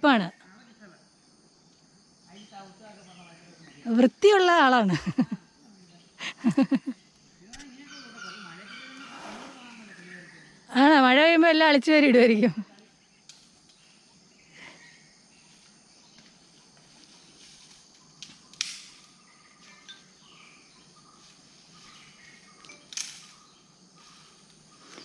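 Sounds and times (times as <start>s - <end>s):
high-pitched insect hum: 0.0s - 25.0s
faint bird chirps: 2.3s - 11.3s, 12.7s - 25.0s.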